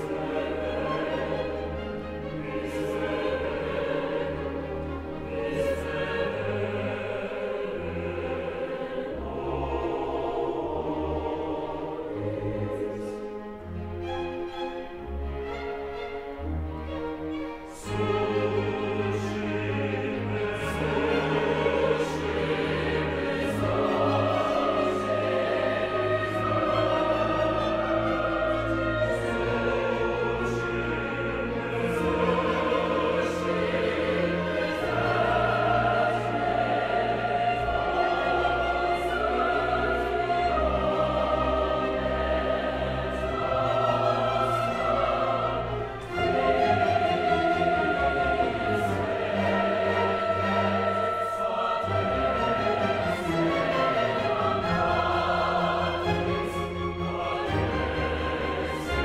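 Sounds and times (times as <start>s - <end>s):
choir singing: 0.0s - 59.0s
string orchestra: 0.0s - 59.0s.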